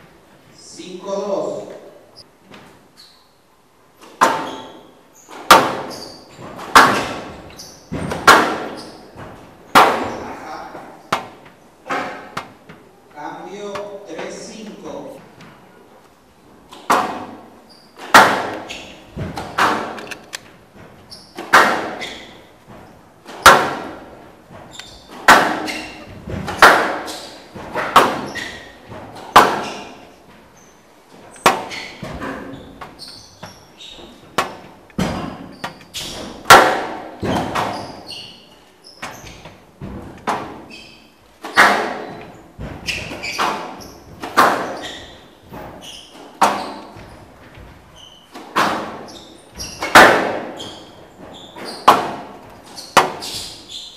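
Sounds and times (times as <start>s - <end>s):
squash ball hitting rackets and walls: 3.9s - 14.6s, 16.4s - 53.9s.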